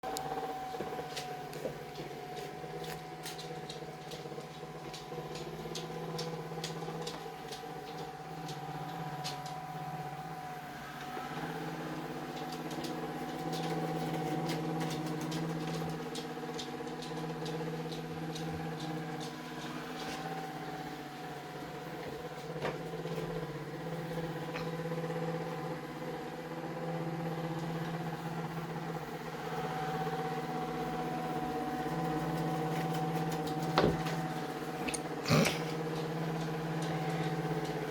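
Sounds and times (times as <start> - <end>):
vacuum cleaner motor humming: 0.0 - 37.9.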